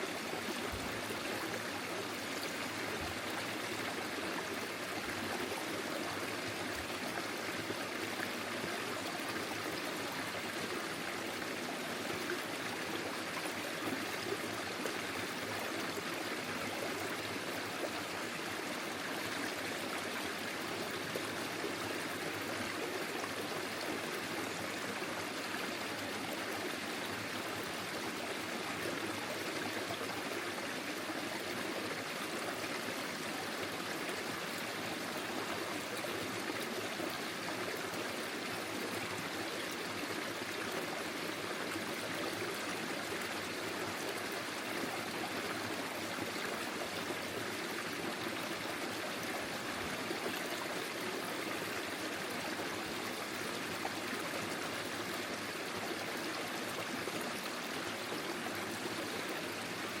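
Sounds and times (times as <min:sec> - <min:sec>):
stream trickling and gurgling: 0:00.0 - 1:00.0.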